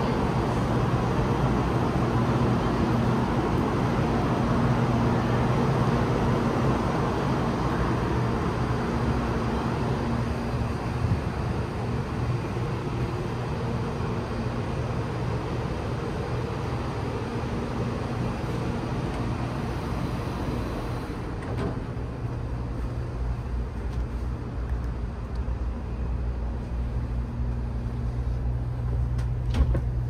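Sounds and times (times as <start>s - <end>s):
machine hum and rumble: 0.0s - 30.0s.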